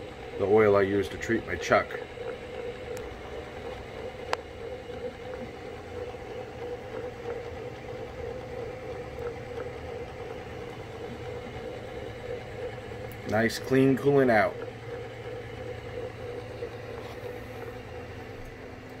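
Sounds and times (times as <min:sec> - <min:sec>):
coolant trickling: 0:00.0 - 0:18.8
machine hum: 0:00.0 - 0:19.0.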